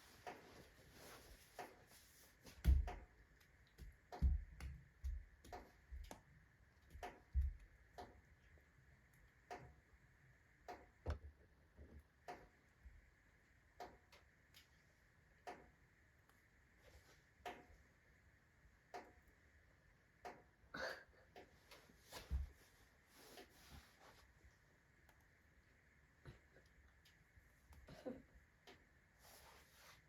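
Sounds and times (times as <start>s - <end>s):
wood fire crackling in a stove: 0.0s - 30.0s.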